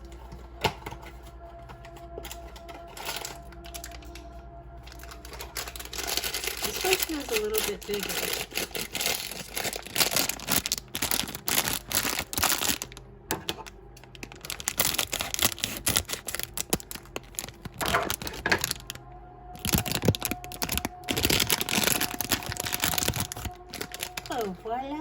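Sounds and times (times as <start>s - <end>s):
packaging being torn and crinkled: 1.8s - 24.6s.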